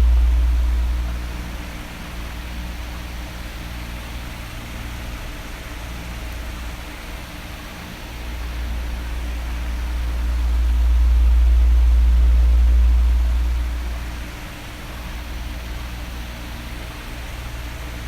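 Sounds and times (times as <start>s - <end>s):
electric fan blowing: 0.0s - 16.9s.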